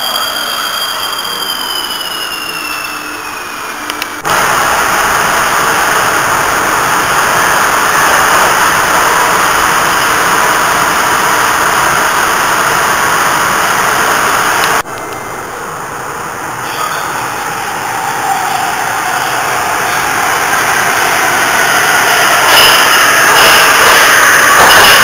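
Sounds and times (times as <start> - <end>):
metro train rumbling in tunnel: 0.0 - 25.0
thin train motor whine: 0.0 - 25.0.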